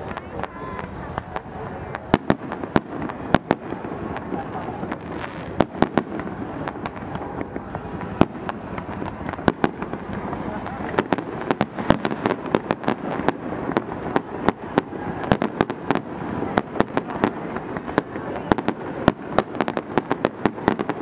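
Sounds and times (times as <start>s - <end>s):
continuous noisy background: 0.0s - 21.0s
fireworks bangs and cracks: 0.0s - 21.0s.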